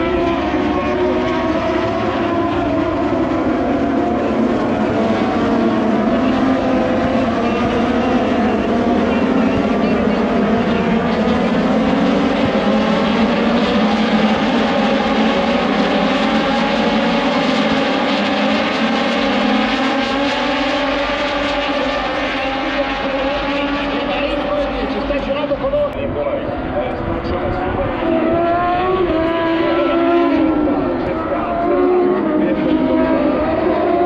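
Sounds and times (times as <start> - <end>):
racing motorcycle engines droning: 0.0 - 34.0.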